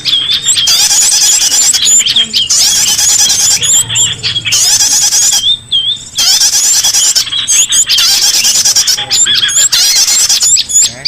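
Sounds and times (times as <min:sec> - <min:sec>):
songbirds trilling and chirping: 0:00.0 - 0:11.0.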